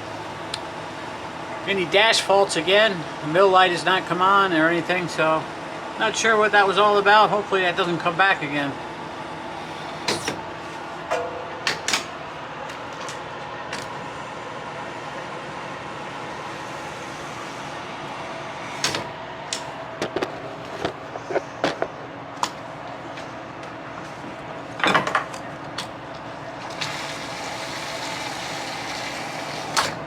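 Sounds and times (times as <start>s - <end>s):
truck idling: 0.0s - 24.8s.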